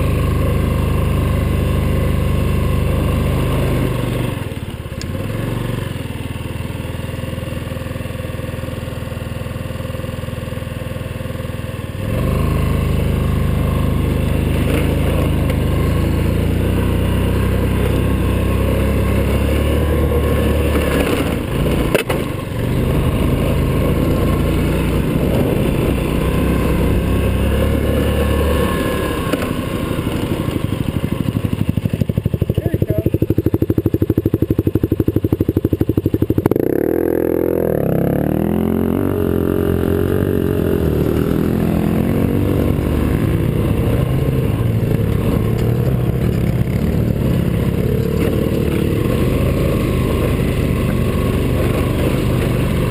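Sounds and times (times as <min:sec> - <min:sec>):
scooter engine under load: 0:00.0 - 0:52.9.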